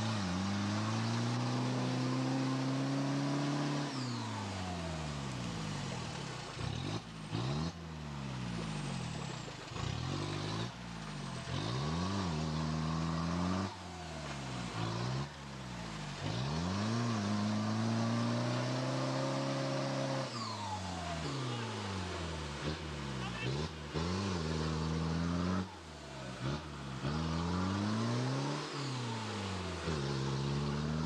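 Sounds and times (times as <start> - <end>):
suv engine revving: 0.0 - 31.0
vehicle churning through mud: 0.0 - 31.0.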